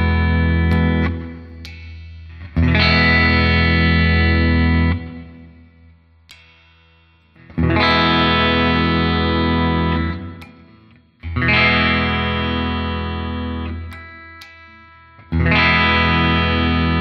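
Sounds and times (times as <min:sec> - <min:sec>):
electric guitar chords ringing: 0:00.0 - 0:17.0.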